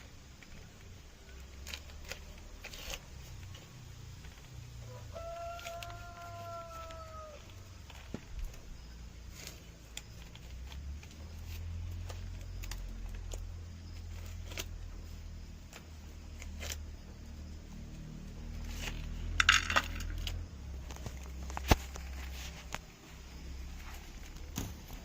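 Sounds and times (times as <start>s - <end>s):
dry corn stalks rustling and snapping: 0.0s - 25.0s.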